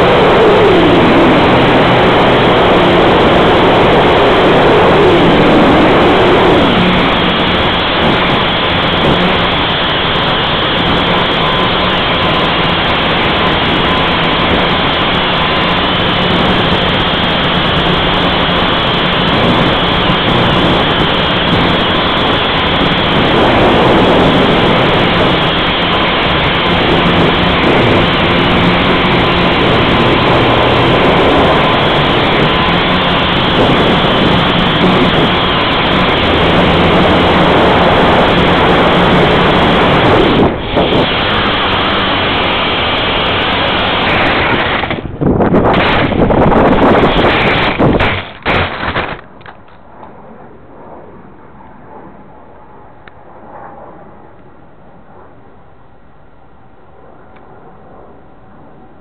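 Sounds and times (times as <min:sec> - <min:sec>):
wind on microphone: 0:00.0 - 0:55.6
quadcopter motors and propellers: 0:00.0 - 0:59.0.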